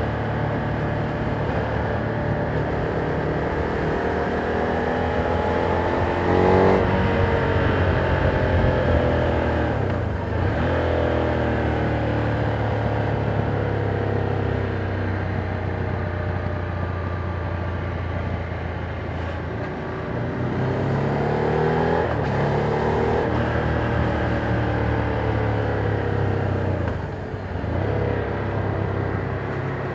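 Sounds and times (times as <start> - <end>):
motorcycle engine revving: 0.2 - 14.4, 18.8 - 29.9.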